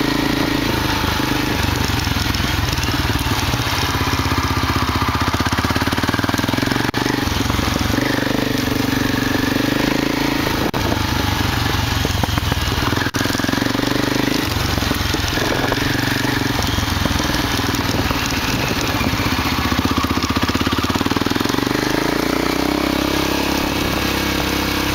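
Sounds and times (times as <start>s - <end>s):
motorcycle engine revving: 0.0s - 24.9s
wind and tyre noise: 0.0s - 24.9s.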